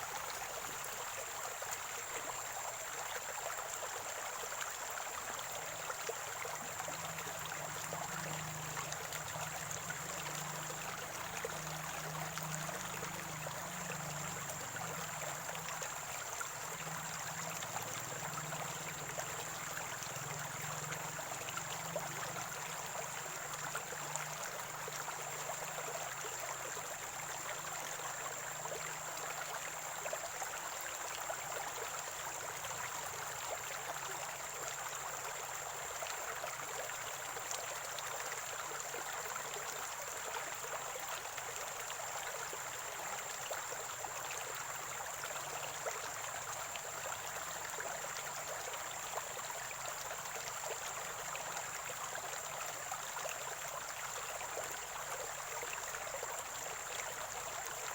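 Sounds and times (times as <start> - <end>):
stream trickling over stones: 0.0 - 57.9.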